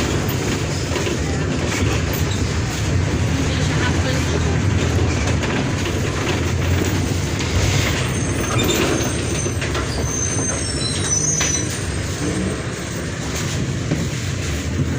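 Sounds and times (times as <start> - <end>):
bus body rattle: 0.0 - 14.9
diesel bus engine rumbling: 0.0 - 14.9.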